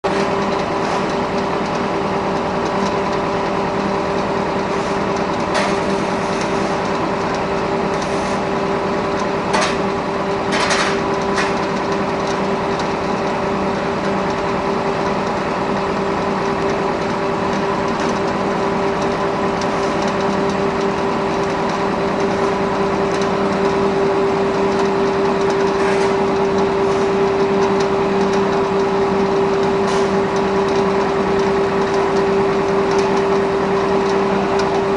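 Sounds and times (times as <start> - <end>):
machine drone with hum: 0.1 - 34.9.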